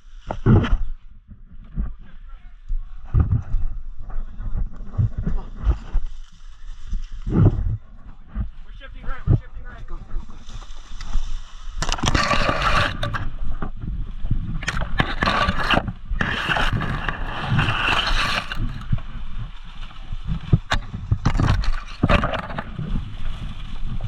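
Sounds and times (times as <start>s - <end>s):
rustling and scraping: 0.0s - 24.0s.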